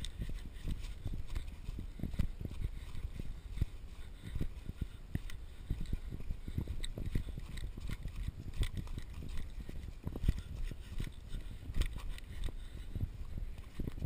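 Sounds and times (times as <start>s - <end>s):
running footsteps on dirt: 0.0s - 14.0s.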